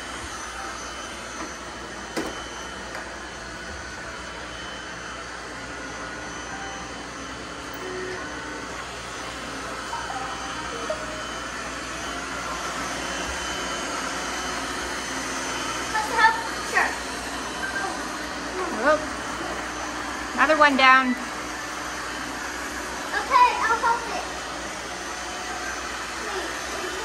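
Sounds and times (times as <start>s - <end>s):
robot vacuum cleaners whirring: 0.0s - 27.0s.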